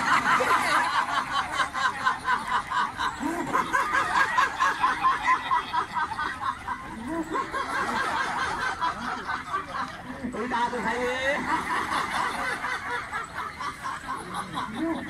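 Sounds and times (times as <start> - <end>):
group laughing rhythmically: 0.0 - 15.0.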